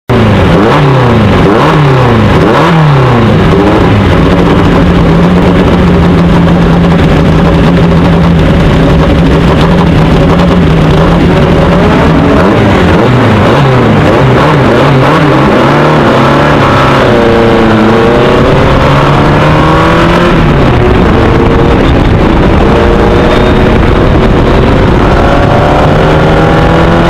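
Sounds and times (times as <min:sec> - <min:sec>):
racing car engine revving: 0:00.1 - 0:27.0.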